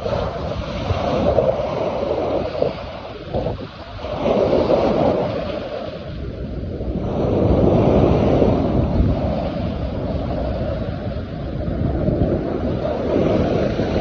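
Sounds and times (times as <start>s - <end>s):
water splashing against shore: 0.0s - 14.0s
wind buffeting microphone: 0.0s - 14.0s.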